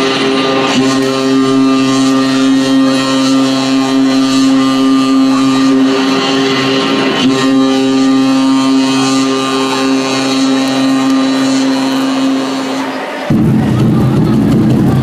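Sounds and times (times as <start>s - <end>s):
low buzzing drone: 0.0s - 15.0s.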